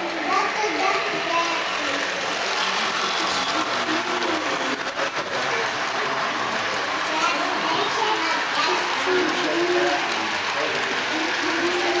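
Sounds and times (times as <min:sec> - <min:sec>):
model train whirring and rattling: 0:00.0 - 0:12.0.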